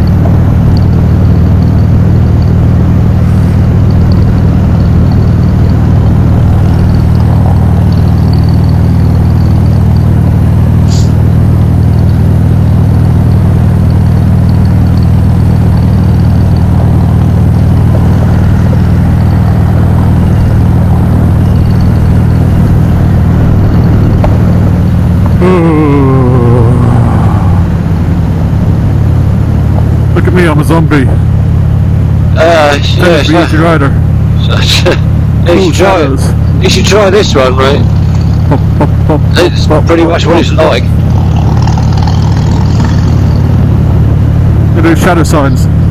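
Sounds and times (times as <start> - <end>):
motorcycle engine and wind rumble: 0.0 - 45.9.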